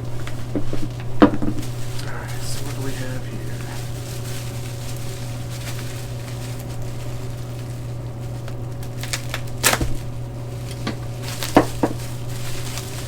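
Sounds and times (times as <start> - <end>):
steady low hum: 0.0 - 13.0
packaging rustles and clicks: 0.1 - 13.0.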